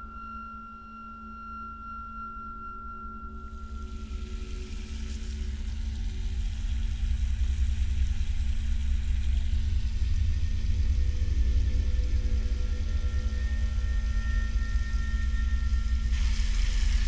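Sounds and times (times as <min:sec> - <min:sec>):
dark horror drone: 0:00.0 - 0:17.0.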